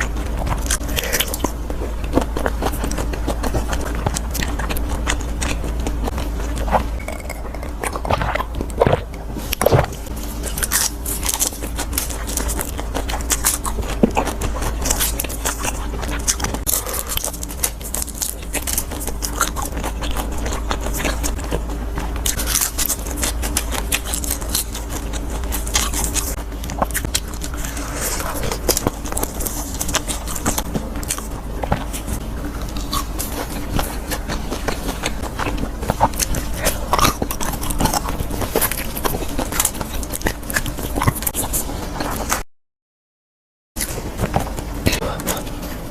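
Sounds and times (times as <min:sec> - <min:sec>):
person chewing crunchy food: 0:00.0 - 0:42.4, 0:43.8 - 0:45.9.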